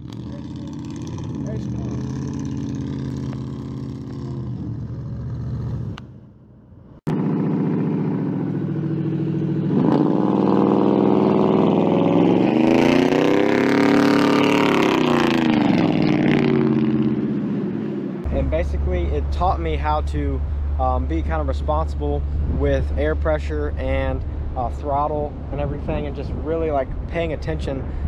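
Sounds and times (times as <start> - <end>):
pickup truck engine revving: 0.0 - 6.0, 7.1 - 26.8.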